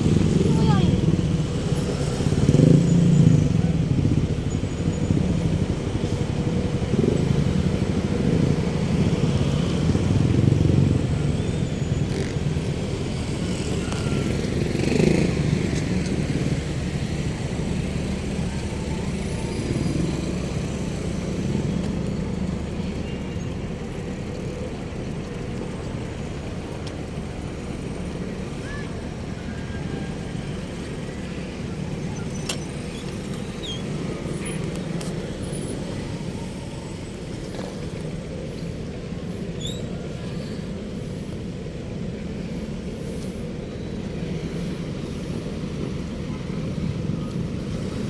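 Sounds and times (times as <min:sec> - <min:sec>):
motorcycle and car engines rumbling: 0:00.0 - 0:48.0
vehicles passing close: 0:00.0 - 0:48.0.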